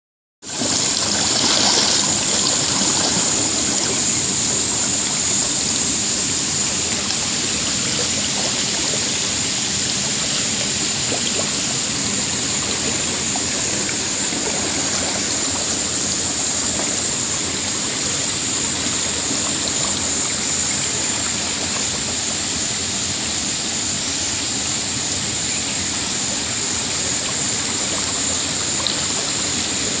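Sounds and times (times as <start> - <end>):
waterfall rushing over rocks: 0.4 - 30.0.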